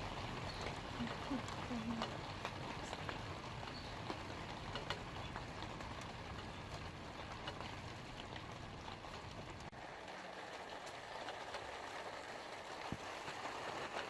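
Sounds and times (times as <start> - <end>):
light rain on leaves: 0.0 - 14.0
raindrops ticking: 0.0 - 14.0.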